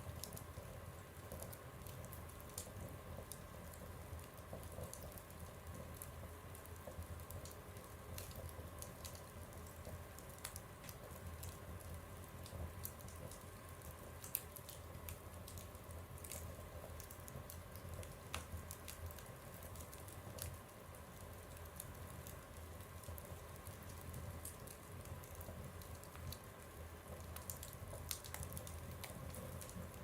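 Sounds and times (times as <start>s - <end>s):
low steady hum: 0.0s - 30.0s
wood fire crackling in a stove: 0.0s - 30.0s.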